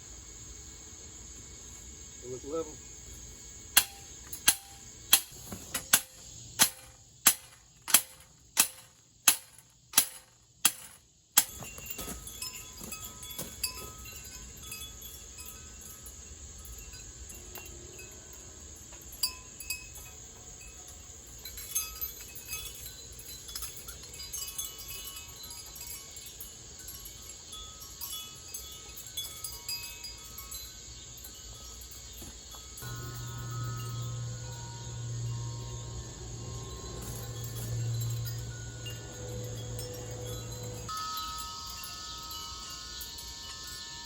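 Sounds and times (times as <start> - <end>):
steady hiss: 0.0 - 44.0
metal wind chimes tinkling: 2.2 - 44.0.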